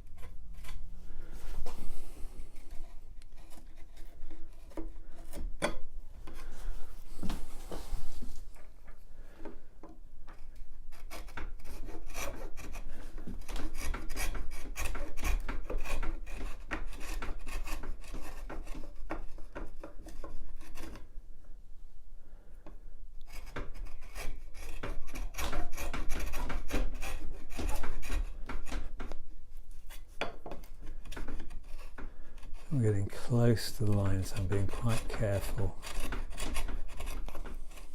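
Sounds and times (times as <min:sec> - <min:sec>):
chisel scraping wood: 0:00.0 - 0:08.6, 0:10.3 - 0:21.1, 0:23.2 - 0:37.9.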